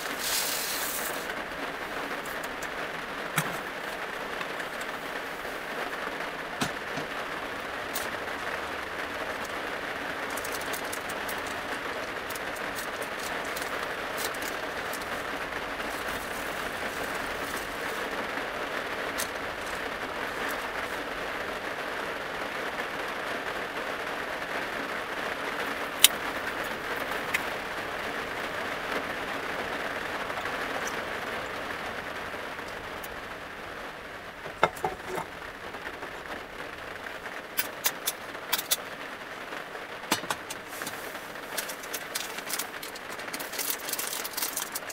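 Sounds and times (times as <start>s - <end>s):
rain falling on a van roof: 0.0s - 44.9s.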